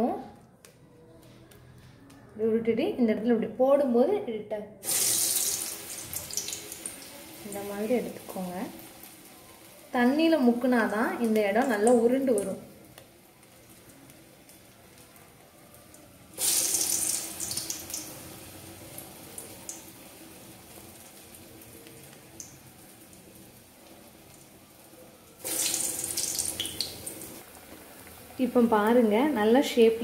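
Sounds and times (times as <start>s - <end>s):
hot oil sizzling: 4.8s - 30.0s.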